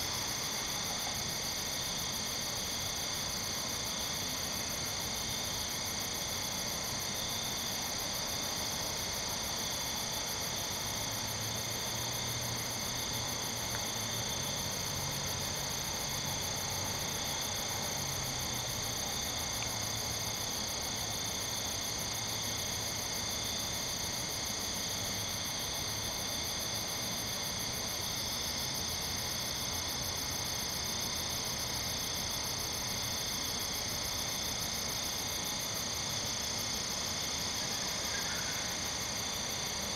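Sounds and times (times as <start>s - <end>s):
crickets and katydids trilling: 0.0s - 39.9s.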